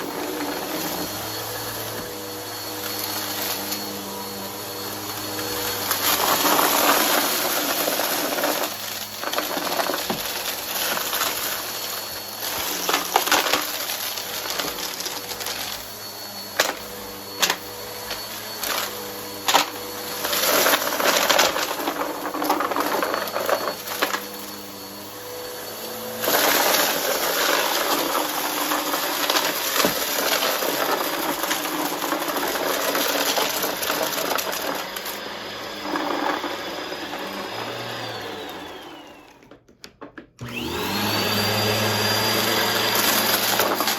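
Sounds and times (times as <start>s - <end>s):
vacuum cleaner sucking up debris: 0.0s - 39.7s, 40.3s - 43.9s.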